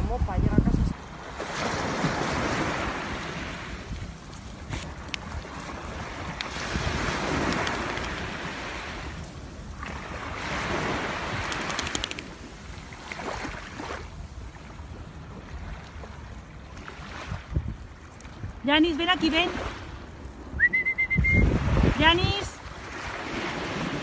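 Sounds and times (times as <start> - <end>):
wind rumble on microphone: 0.0 - 18.8, 19.4 - 24.0
small waves washing onto beach: 0.8 - 20.6, 21.5 - 24.0.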